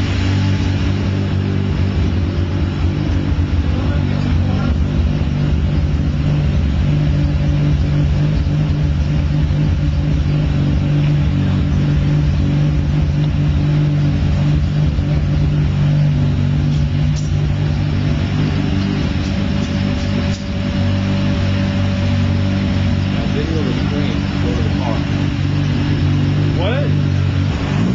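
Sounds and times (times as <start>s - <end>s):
rotary engine running: 0.0s - 27.9s.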